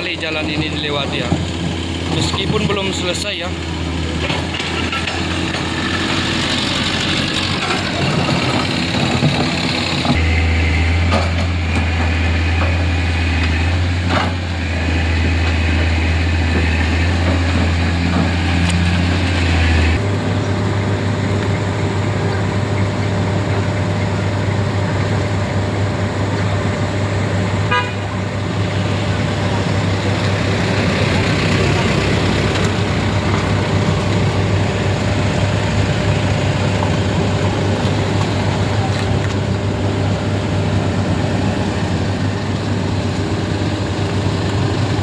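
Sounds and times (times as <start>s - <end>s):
traffic engines humming: 0.0s - 45.0s.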